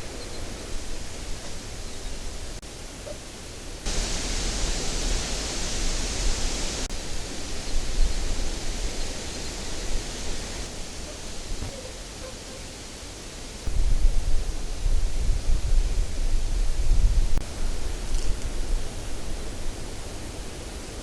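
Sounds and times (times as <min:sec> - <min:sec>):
louder hiss: 0:00.0 - 0:21.0
steady hiss: 0:00.0 - 0:21.0.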